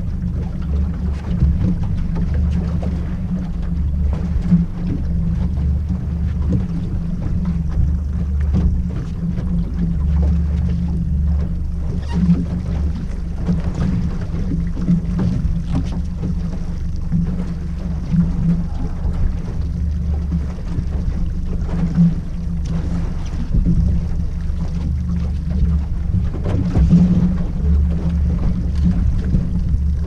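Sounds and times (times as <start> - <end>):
outboard motor running: 0.0 - 30.0
water noise: 0.0 - 30.0.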